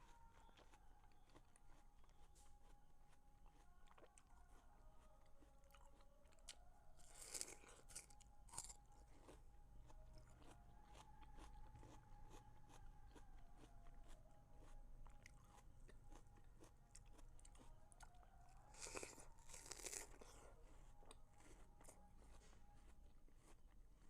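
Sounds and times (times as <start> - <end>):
person chewing watermelon: 0.0 - 24.0.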